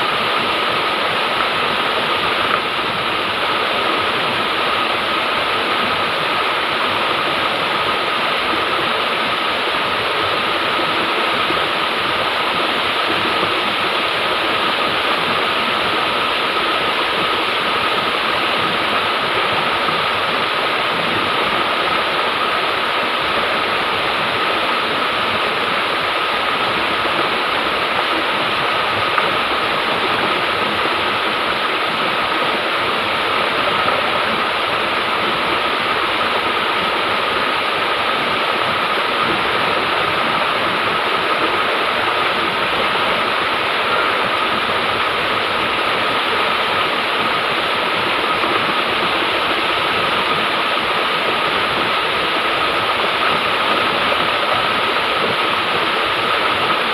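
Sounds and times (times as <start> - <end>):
river water rushing over rocks: 0.0 - 56.9.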